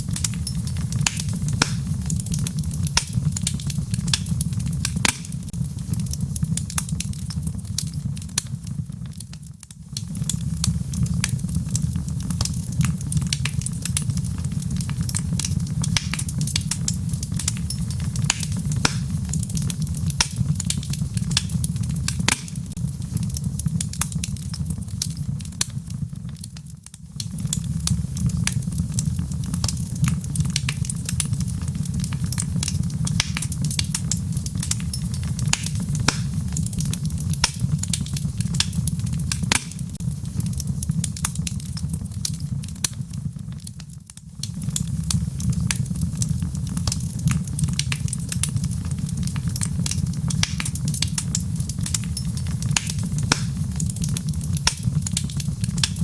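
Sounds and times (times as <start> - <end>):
log fire crackling and popping: 0.0 - 56.0.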